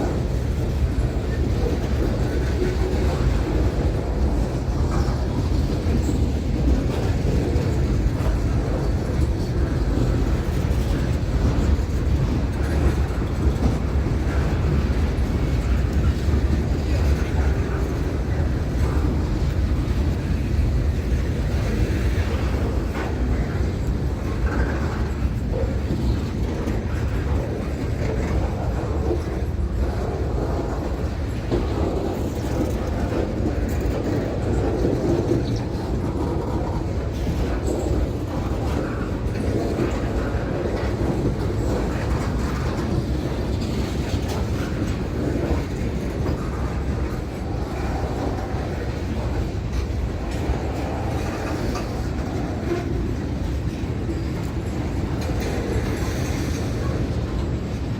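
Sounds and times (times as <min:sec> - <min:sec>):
clickety-clack of rail joints: 0:00.0 - 0:57.9
train rolling on rails: 0:00.0 - 0:57.9.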